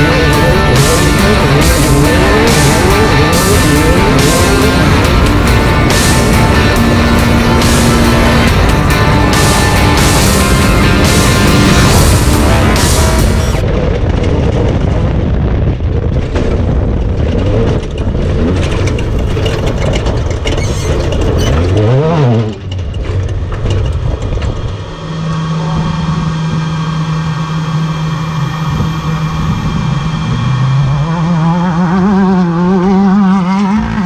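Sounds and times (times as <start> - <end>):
heavy rattle: 0.0 - 31.5
race car engine running hard: 0.0 - 34.0.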